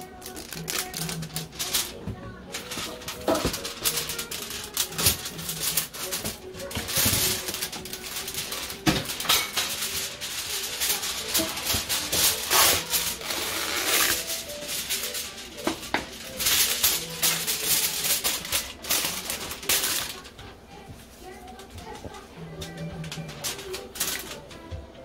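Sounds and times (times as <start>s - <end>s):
aluminium foil crinkling: 0.0s - 24.8s.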